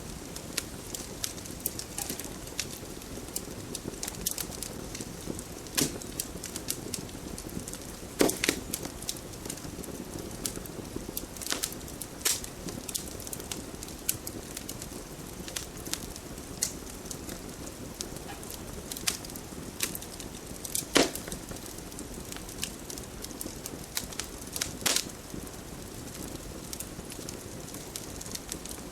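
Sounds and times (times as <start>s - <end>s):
fire crackling and popping: 0.0s - 28.9s
wood fire burning: 0.0s - 28.9s.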